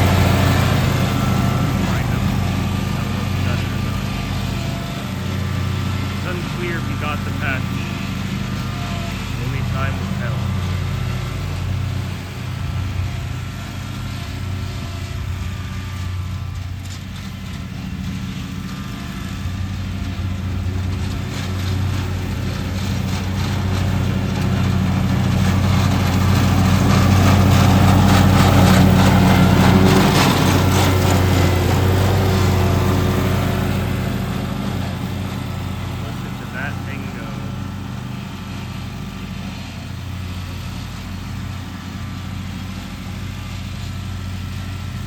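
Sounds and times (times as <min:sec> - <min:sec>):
lawn mower engine running: 0:00.0 - 0:45.0.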